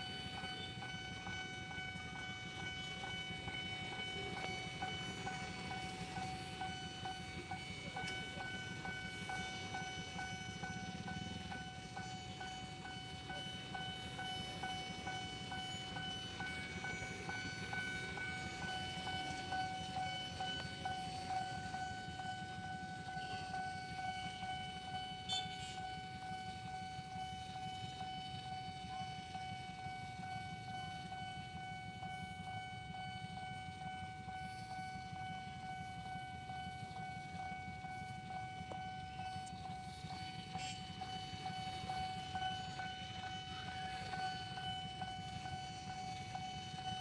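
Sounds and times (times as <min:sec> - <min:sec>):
level-crossing alarm tone: 0:00.0 - 0:47.0.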